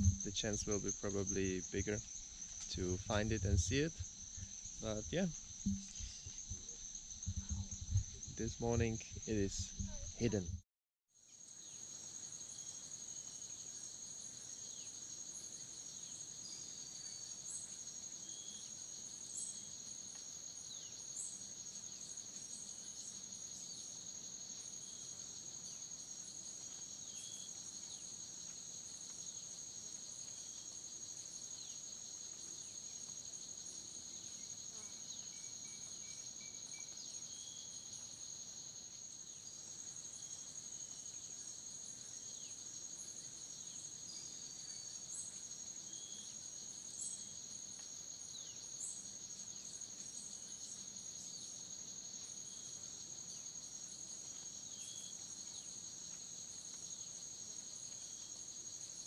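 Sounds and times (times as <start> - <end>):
insects trilling: 0.0 - 10.6, 11.3 - 59.0.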